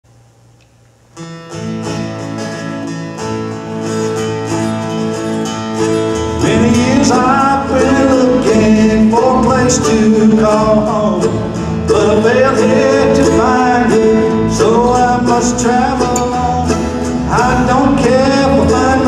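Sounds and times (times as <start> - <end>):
acoustic guitars: 0.4 - 19.0
mandolin: 1.2 - 19.0.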